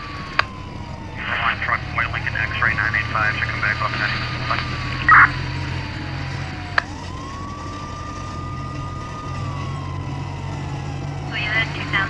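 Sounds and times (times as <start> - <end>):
car engine idling: 0.0 - 12.0
siren wailing: 0.0 - 12.0.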